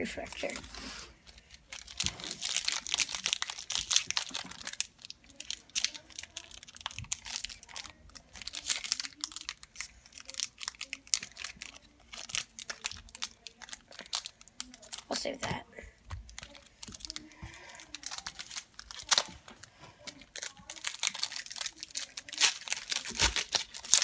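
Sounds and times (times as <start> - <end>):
foil wrapper crinkling: 0.2 - 15.4, 16.1 - 24.0.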